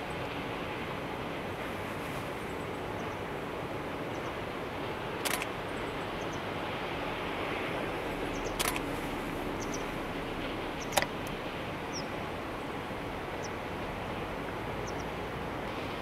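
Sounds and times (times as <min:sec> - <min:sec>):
distant train rumble: 0:00.0 - 0:16.0
outdoor hiss: 0:00.0 - 0:16.0.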